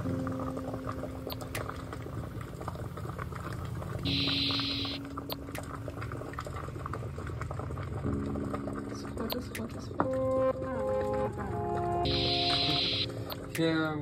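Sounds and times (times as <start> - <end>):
water simmering and bubbling: 0.0 - 14.0.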